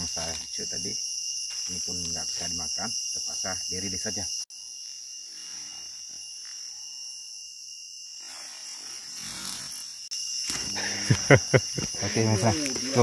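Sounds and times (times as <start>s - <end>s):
crickets and insects chirring: 0.0s - 13.0s.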